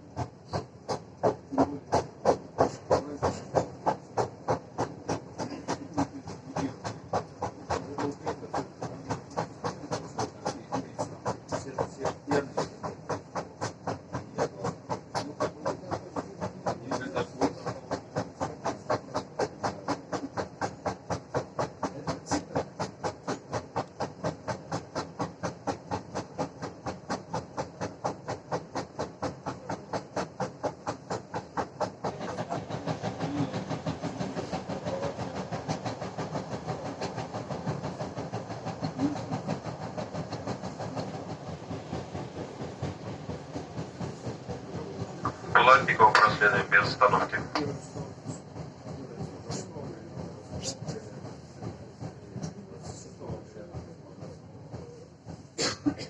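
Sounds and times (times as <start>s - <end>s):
train wheel knocking on rail: 0.0s - 56.0s.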